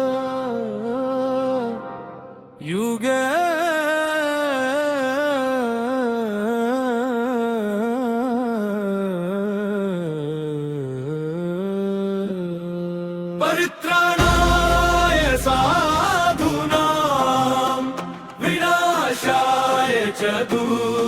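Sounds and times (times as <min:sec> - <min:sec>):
person singing wordless melody: 0:00.0 - 0:21.0.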